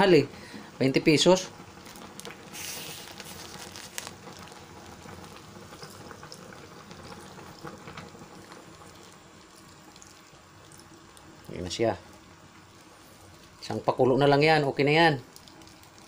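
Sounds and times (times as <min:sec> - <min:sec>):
pot simmering with bubbling hiss: 0:00.0 - 0:16.0
coconut milk pouring: 0:01.1 - 0:16.0.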